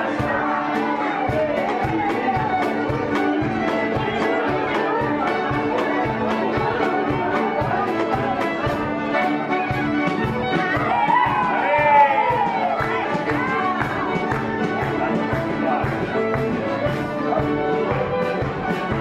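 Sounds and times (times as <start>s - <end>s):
accordion: 0.0s - 19.0s
steady drum beat: 0.0s - 19.0s
violins: 0.0s - 19.0s.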